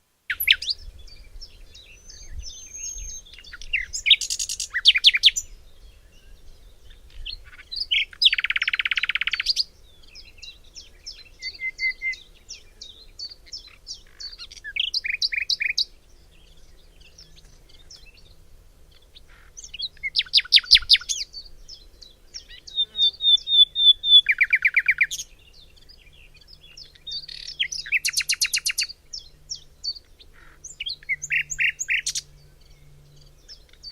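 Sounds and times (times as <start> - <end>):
nightingale singing trills: 0.2 - 33.9.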